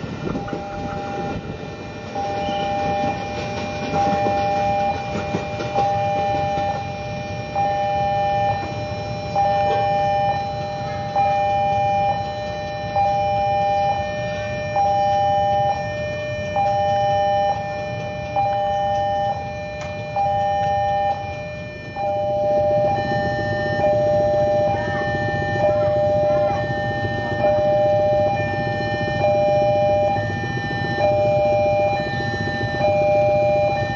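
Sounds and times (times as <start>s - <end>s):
level crossing two-tone alarm: 0.0s - 33.9s.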